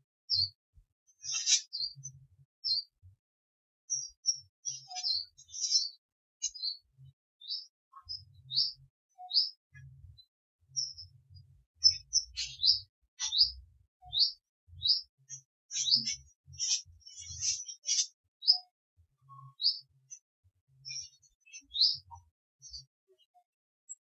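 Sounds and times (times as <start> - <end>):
small birds chirping: 0.3 - 3.1, 3.9 - 24.0.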